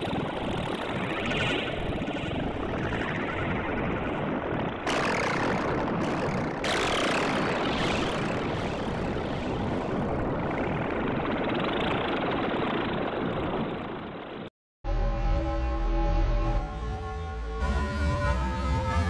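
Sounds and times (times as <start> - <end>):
dense noisy synthesizer drone: 0.0 - 19.0.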